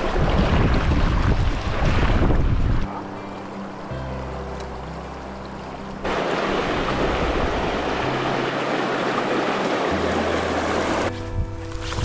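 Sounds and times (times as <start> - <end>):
river current rushing and splashing: 0.0 - 12.0.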